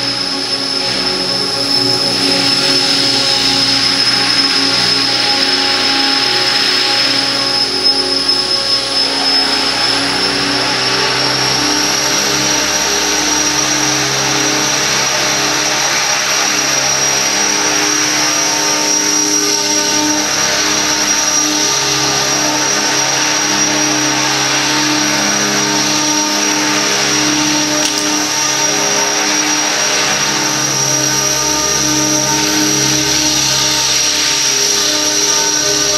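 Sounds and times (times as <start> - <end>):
rc helicopter rotor whine: 0.0 - 35.9.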